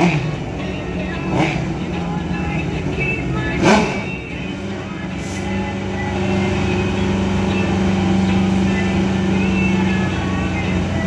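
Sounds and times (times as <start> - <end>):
racing motorcycle engines: 0.0 - 11.0.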